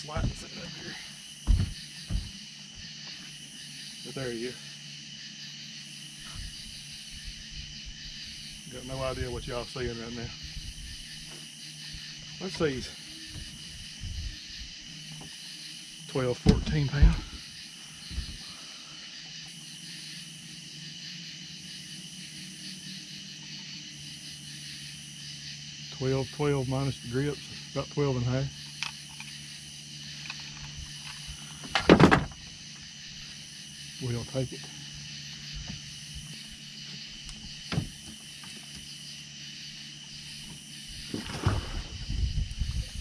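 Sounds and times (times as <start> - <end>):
high-pitched hiss: 0.0 - 43.0
night insects chorus: 0.0 - 43.0.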